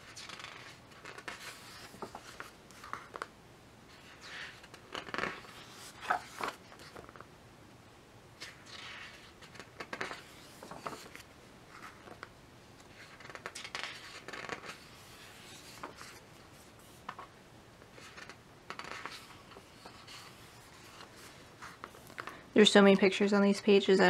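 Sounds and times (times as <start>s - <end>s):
book pages rustling: 0.0s - 3.3s, 3.9s - 7.2s, 8.4s - 22.4s.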